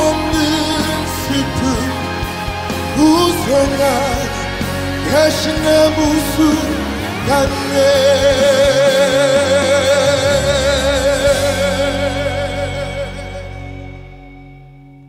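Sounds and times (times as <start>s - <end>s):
man singing a ballad: 0.0s - 14.2s.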